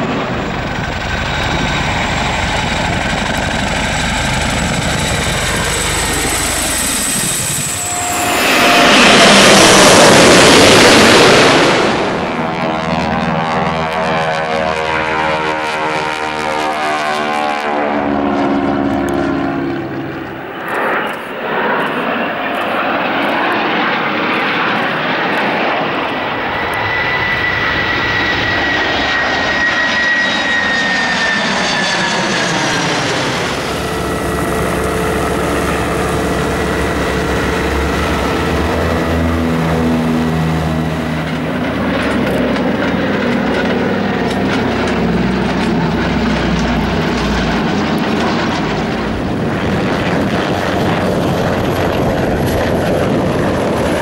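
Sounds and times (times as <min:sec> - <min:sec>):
jets rushing flyby with whine: 0:00.0 - 0:54.0
light plane engines throbbing: 0:00.0 - 0:54.0
propeller plane flyby: 0:00.0 - 0:54.0
small helicopter: 0:00.0 - 0:54.0.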